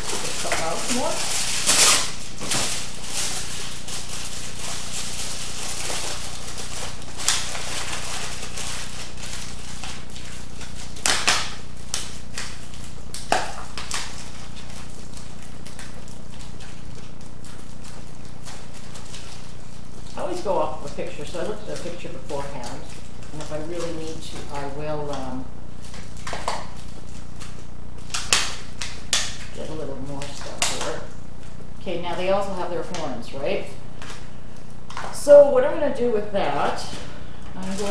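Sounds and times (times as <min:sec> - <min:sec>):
aluminium foil crumpling: 0:00.0 - 0:35.2, 0:36.0 - 0:37.9
low hum and hiss: 0:00.0 - 0:37.9.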